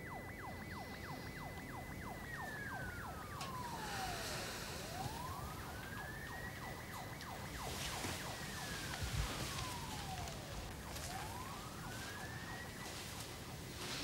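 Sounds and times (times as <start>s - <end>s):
siren wailing: 0.0s - 14.0s
siren yelping: 0.0s - 14.0s.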